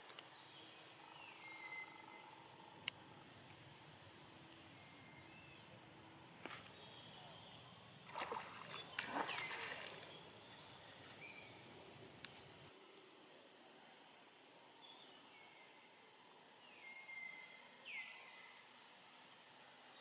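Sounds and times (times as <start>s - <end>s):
faint outdoor ambience: 0.0s - 20.0s.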